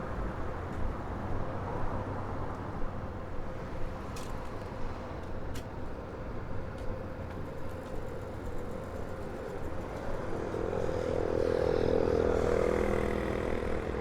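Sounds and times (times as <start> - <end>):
street traffic hum: 0.1 - 14.0.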